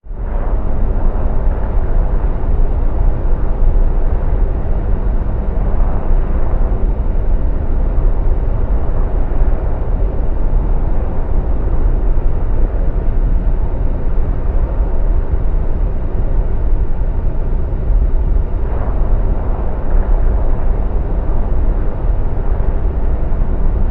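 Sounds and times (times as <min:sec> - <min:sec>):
jet airliner rumbling in flight: 0:00.0 - 0:23.9.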